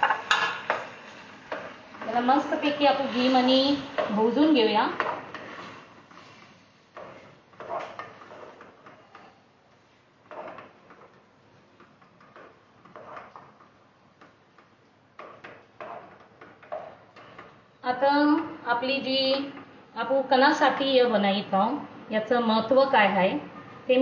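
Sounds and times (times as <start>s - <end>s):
wooden spatula scraping pot: 0.0s - 19.7s.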